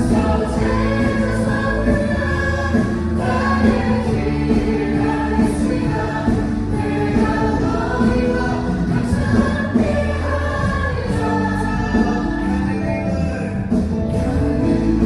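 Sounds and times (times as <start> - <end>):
choir singing worship song: 0.0 - 15.0.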